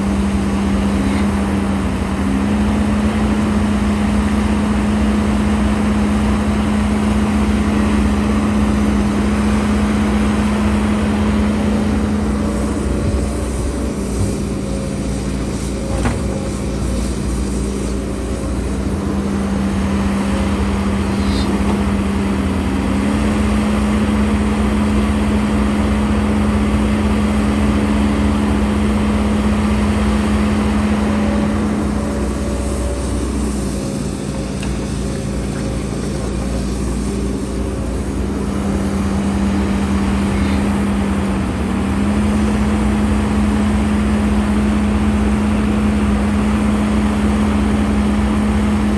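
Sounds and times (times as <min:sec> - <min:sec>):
broad rushing noise: 0:00.0 - 0:48.9
excavator diesel engine running: 0:00.0 - 0:48.9.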